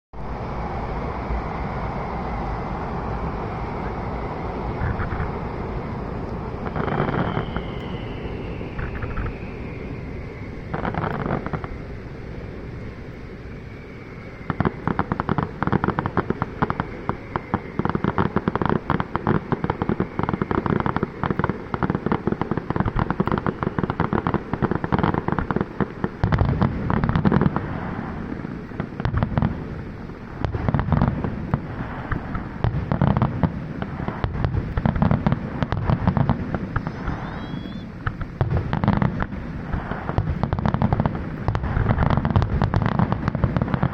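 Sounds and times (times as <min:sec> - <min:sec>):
fireworks booms: 0:00.2 - 0:43.9
fireworks crackling pops: 0:00.2 - 0:43.9.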